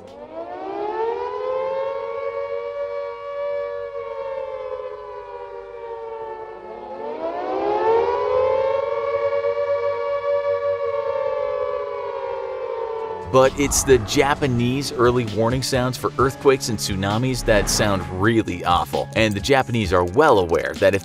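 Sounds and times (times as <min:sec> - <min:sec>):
air raid siren wailing: 0:00.0 - 0:18.4.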